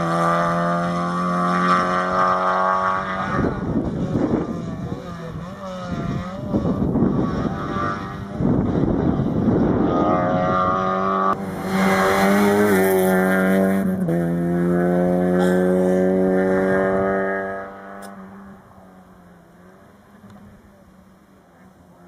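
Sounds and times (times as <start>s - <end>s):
rally car engine roaring: 0.0s - 22.0s.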